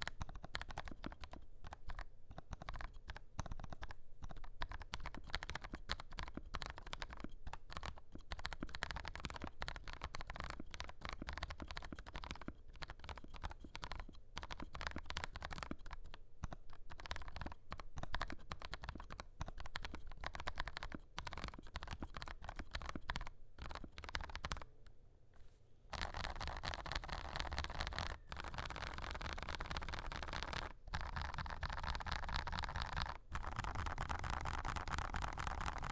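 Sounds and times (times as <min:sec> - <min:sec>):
mechanical keyboard clacks: 0:00.0 - 0:24.7, 0:25.9 - 0:35.9.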